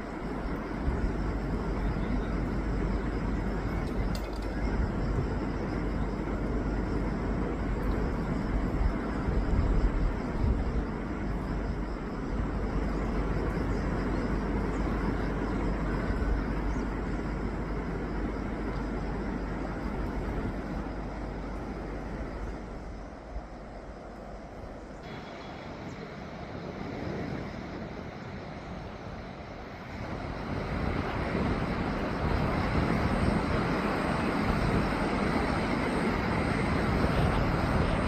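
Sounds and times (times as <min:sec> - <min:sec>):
wind buffeting microphone: 0:00.0 - 0:25.2, 0:25.8 - 0:38.0.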